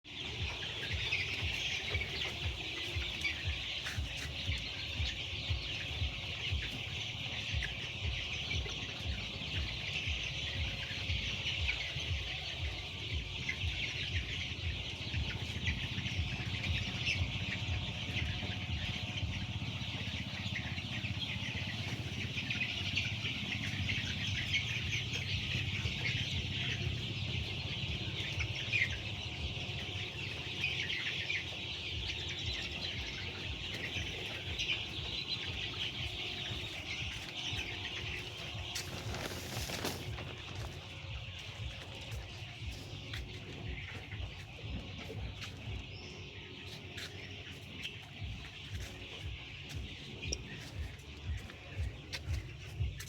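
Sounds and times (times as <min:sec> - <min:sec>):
chickens clucking: 0:00.0 - 0:53.0
low regular pulsing: 0:00.1 - 0:53.0.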